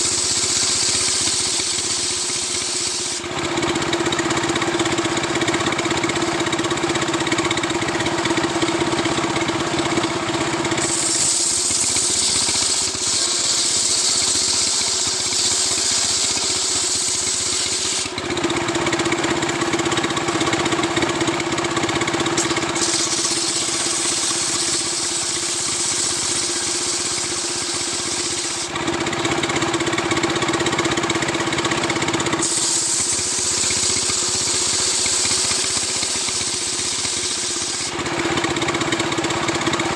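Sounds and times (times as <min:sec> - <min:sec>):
chainsaw at full throttle: 0:00.0 - 0:39.9.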